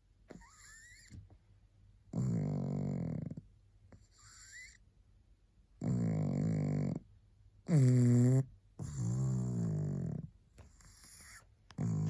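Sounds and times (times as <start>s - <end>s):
dog snoring: 0.3s - 1.2s, 2.1s - 4.8s, 5.8s - 12.0s.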